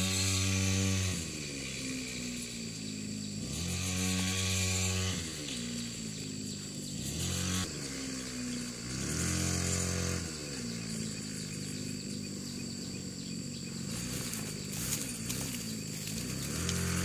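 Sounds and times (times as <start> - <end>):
small engine revving: 0.0 - 17.0.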